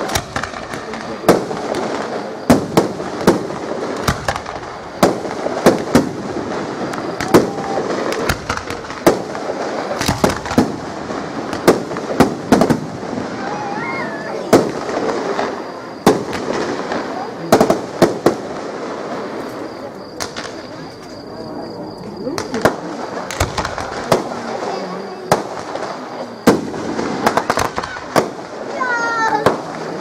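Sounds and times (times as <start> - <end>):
firework shells bursting: 0.0 - 21.2, 22.3 - 30.0.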